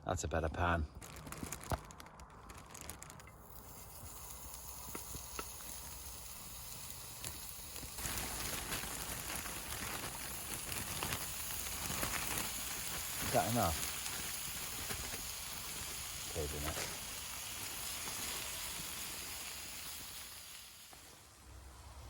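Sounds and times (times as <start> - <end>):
small crackles: 0.5 - 22.0
food sizzling in a pan: 3.3 - 22.0.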